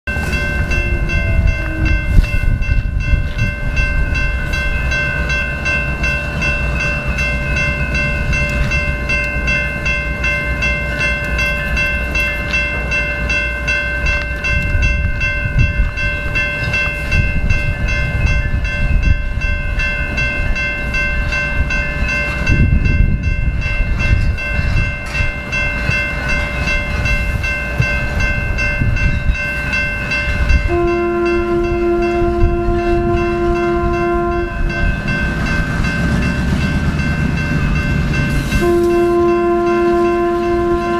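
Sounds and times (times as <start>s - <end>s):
locomotive rumbling along track: 0.0s - 40.9s
railroad bell ringing: 0.1s - 40.9s.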